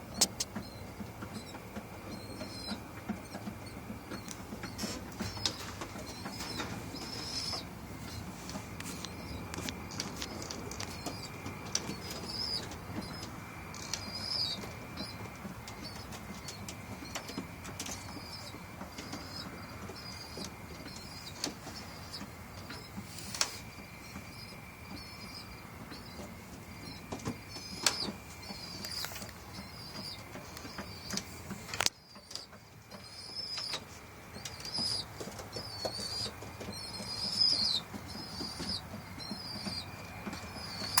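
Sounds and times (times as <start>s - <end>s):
pigeons chirping: 0.0s - 41.0s.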